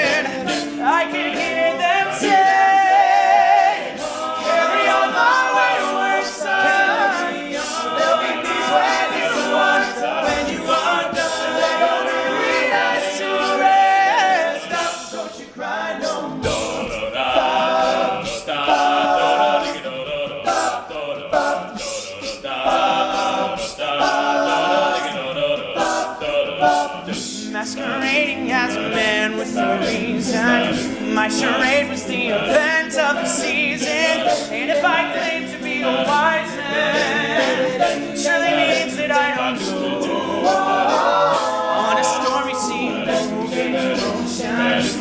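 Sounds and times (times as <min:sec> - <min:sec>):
male group singing in harmony: 0:00.0 - 0:45.0
percussive beat: 0:00.0 - 0:45.0.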